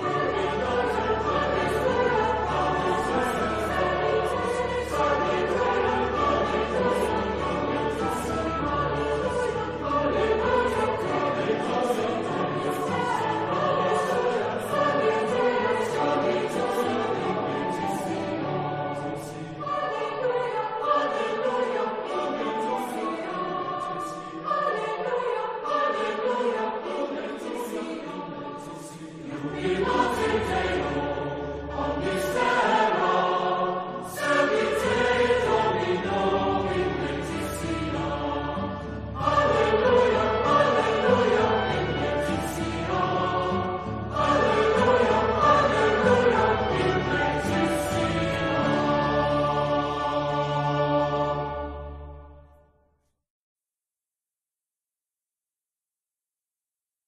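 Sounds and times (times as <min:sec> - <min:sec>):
choir singing: 0:00.0 - 0:52.6.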